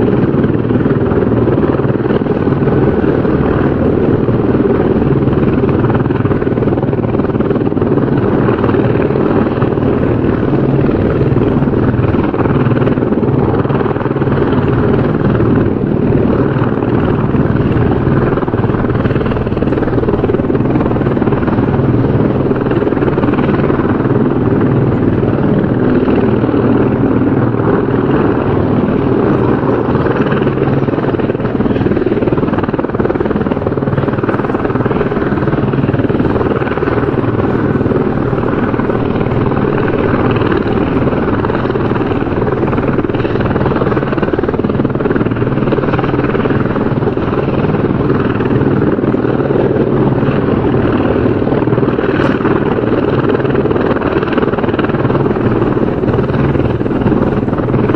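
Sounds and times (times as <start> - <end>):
helicopter rotor and engine: 0.0 - 57.9.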